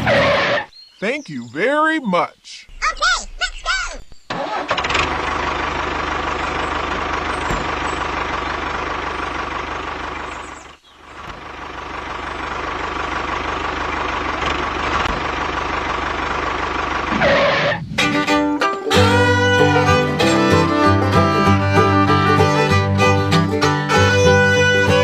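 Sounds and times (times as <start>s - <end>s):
engine chugging: 2.7s - 25.0s.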